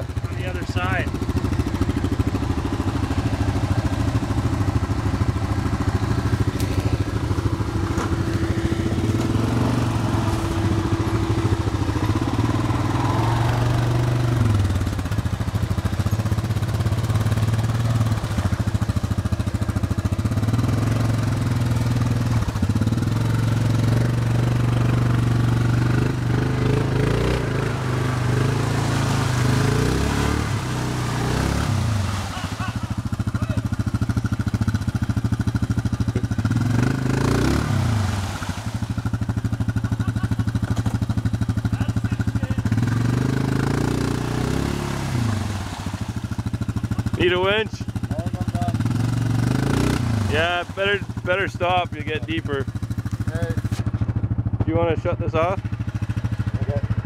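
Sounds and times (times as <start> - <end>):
atv engine revving: 0.0 - 57.0
wheels churning mud: 0.0 - 57.0.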